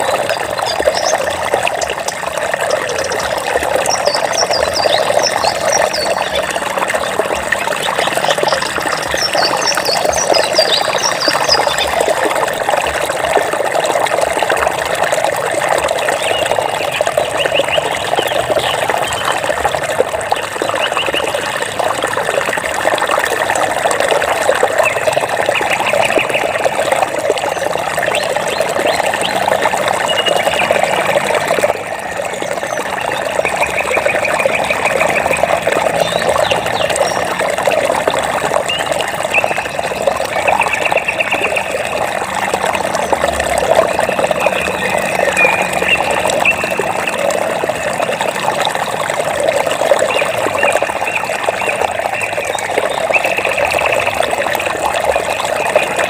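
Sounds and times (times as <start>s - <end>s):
water trickling and splashing: 0.0s - 56.0s.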